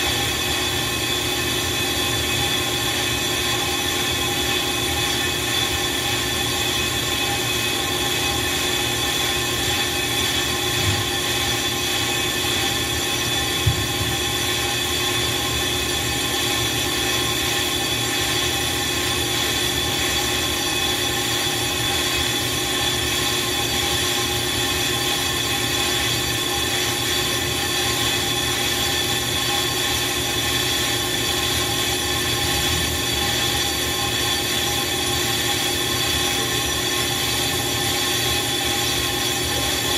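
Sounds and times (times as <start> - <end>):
brake lathe metallic whine: 0.0 - 39.9.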